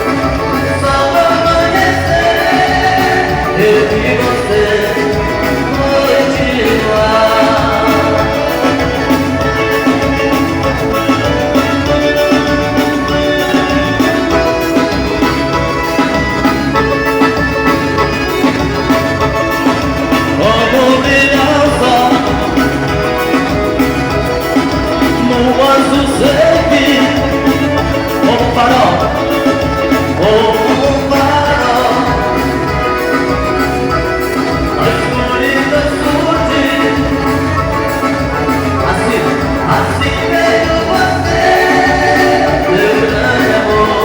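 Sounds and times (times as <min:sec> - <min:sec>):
band playing dance music: 0:00.0 - 0:44.0.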